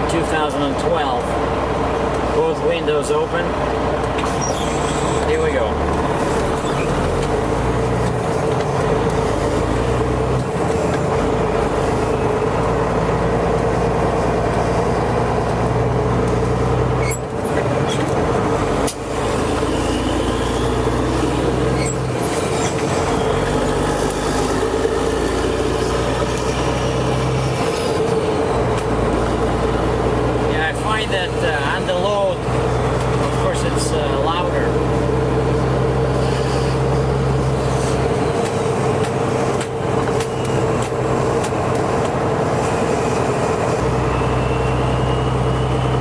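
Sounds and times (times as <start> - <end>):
loud diesel truck exhaust: 0.0 - 46.0.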